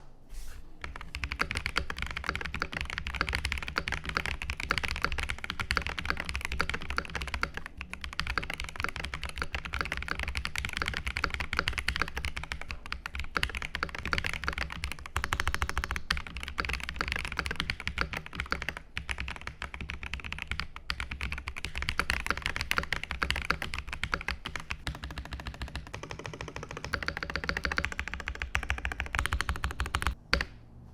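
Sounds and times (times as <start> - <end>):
fast mechanical keyboard typing: 0.8 - 30.6.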